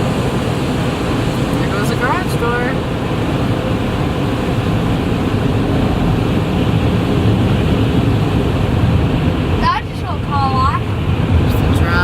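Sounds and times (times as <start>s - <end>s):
car wash machinery rushing: 0.0s - 12.0s.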